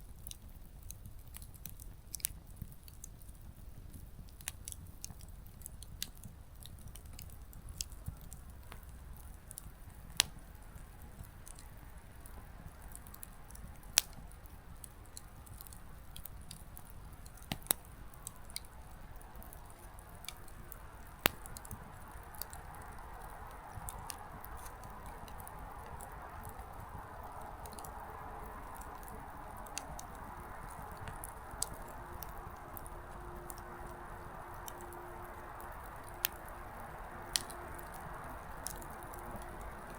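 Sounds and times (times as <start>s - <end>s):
firewood crackling: 0.0s - 39.9s
soft hiss of burning: 0.0s - 39.9s.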